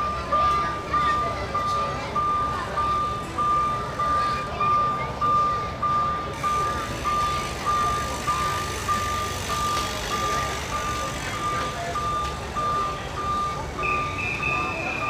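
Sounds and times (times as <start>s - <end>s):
electronic warning beeps: 0.0s - 15.0s.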